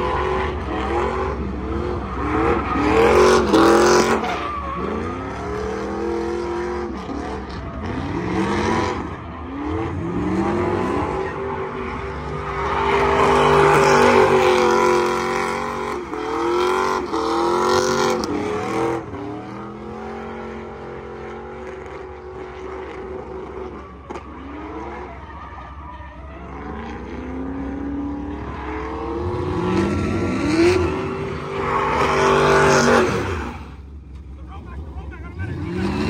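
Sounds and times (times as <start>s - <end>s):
engine revving: 0.0s - 33.8s, 34.6s - 36.0s.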